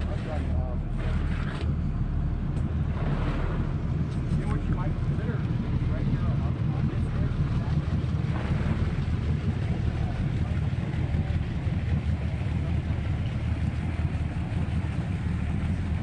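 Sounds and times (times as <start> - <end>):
faint voices: 0.0 - 1.7, 4.1 - 16.0
boat engine idling: 0.0 - 16.0.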